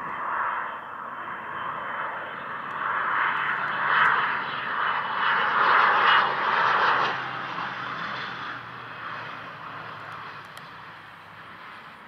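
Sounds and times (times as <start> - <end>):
jet engine rush: 0.0 - 12.0.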